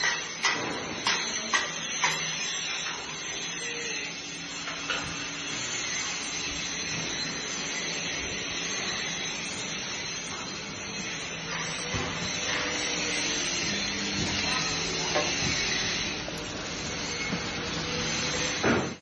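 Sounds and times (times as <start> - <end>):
arc welding hiss and crackle: 0.0 - 19.0.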